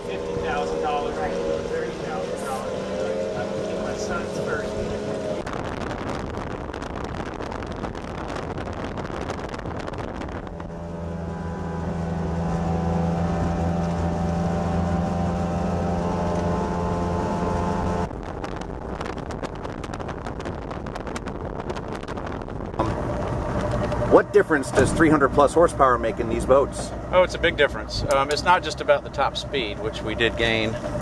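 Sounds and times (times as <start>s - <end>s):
high-revving outboard engine: 0.0s - 31.0s
wind and water rushing: 0.0s - 31.0s.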